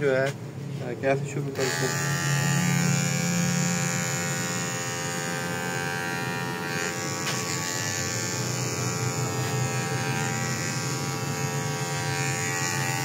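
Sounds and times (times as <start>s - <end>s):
electric hair clippers running: 1.6s - 13.0s.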